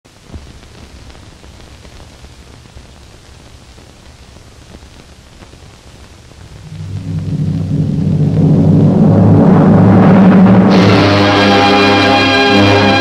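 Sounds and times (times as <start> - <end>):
film soundtrack hiss: 0.1 - 13.0.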